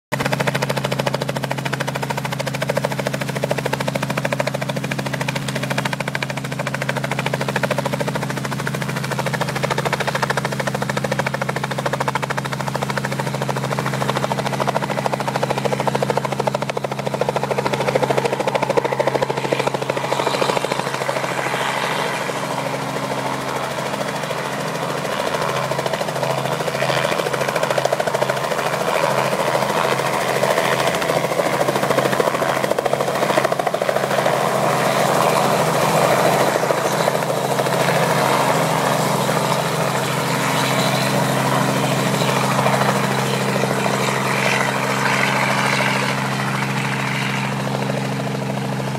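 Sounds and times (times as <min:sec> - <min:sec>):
helicopter engine and rotor: 0:00.1 - 0:48.9.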